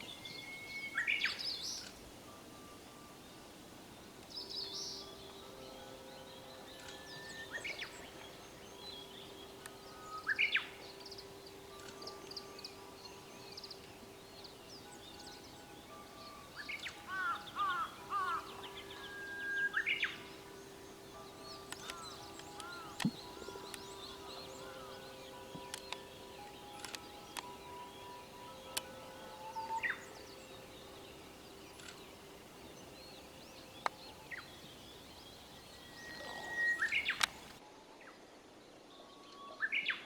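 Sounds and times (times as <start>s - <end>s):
small birds chirping: 0.0s - 37.6s
warbler singing whistled song: 0.0s - 38.2s.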